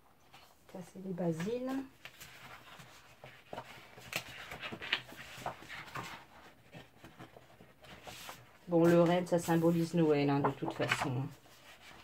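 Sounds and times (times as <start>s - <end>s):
paper crackles: 1.3s - 12.0s
paper sheets rustling: 1.3s - 12.0s.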